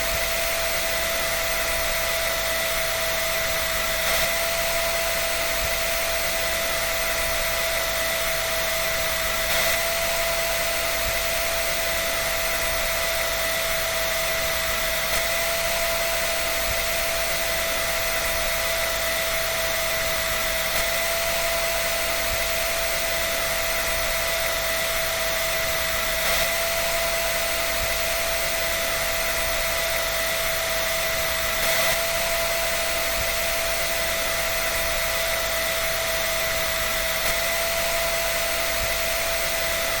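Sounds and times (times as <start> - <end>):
motor whine: 0.0 - 40.0.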